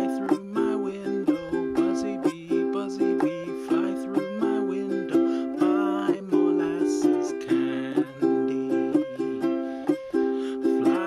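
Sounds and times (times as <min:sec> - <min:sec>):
ukulele strumming chords: 0:00.0 - 0:11.0.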